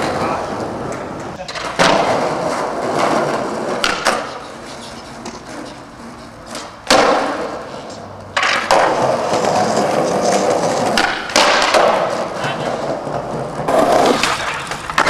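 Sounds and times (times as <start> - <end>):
skateboard hitting hard: 0.0 - 4.6, 6.5 - 15.0
skateboard clacks: 0.0 - 15.0
skateboard wheels rolling on concrete: 0.0 - 15.0.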